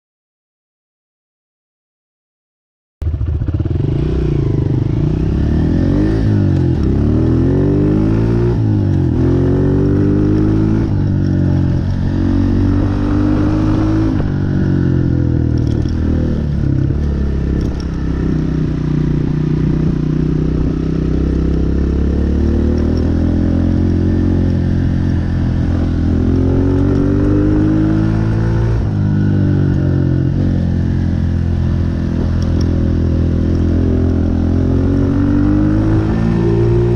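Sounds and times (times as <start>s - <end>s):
dirt bike engine revving: 3.2s - 36.9s.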